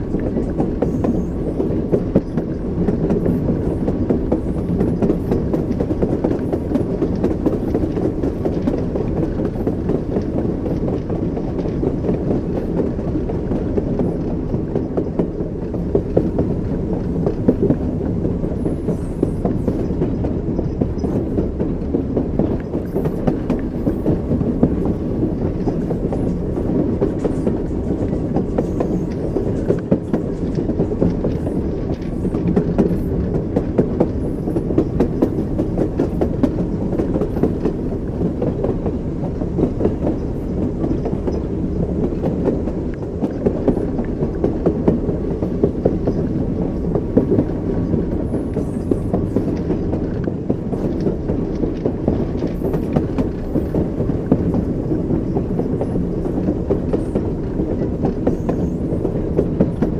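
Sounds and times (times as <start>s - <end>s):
train wheels rumbling on rails: 0.0s - 59.9s
wheels clickety-clack over joints: 0.0s - 59.9s.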